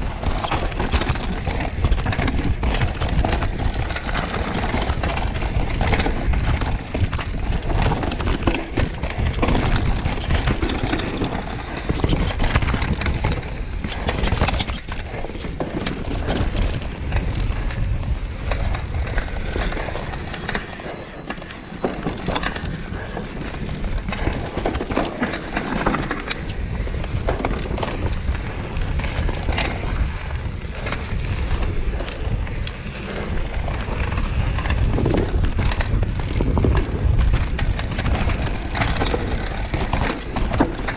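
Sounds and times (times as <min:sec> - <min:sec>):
bike rattling and knocking: 0:00.0 - 0:40.9
bike tyres rolling over dirt: 0:00.0 - 0:40.9.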